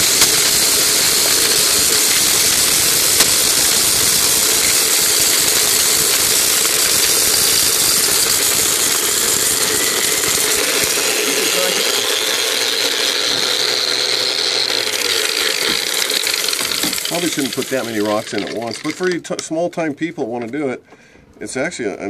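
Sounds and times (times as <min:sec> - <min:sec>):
angle grinder running: 0:00.0 - 0:19.2
rocks rattling and grinding: 0:00.0 - 0:20.6.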